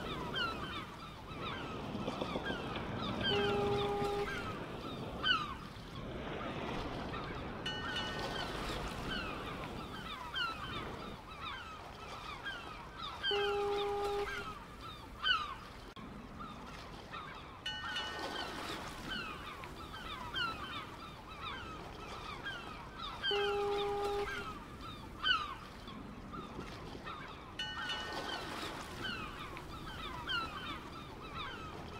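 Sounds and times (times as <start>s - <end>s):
birds calling: 0.0s - 31.9s.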